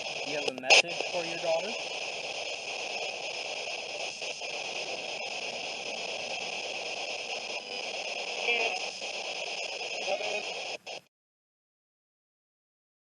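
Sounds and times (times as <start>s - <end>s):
static hiss: 0.0s - 11.1s.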